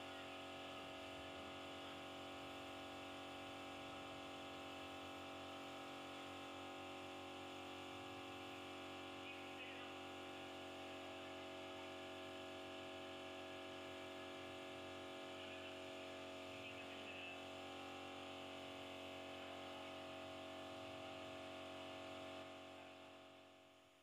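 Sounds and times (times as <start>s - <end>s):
air compressor hum: 0.0s - 24.0s.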